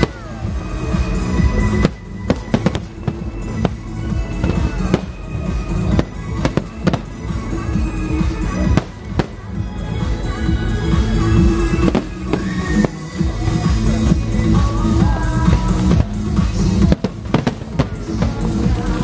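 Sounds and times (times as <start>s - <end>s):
fireworks bursting: 0.0s - 10.2s, 11.0s - 19.0s
music playing: 0.0s - 19.0s.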